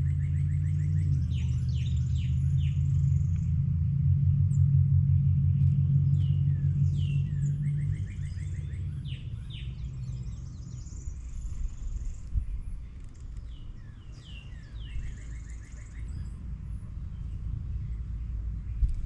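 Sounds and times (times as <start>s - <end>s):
songbirds calling and singing: 0.0s - 19.0s
steady low rumble: 0.0s - 19.0s.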